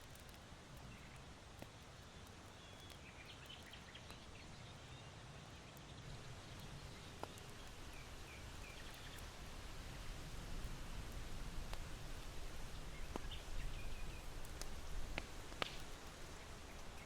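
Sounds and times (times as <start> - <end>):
small birds chirping: 0.0 - 10.1, 12.6 - 17.0
charcoal fire crackling: 0.0 - 17.0.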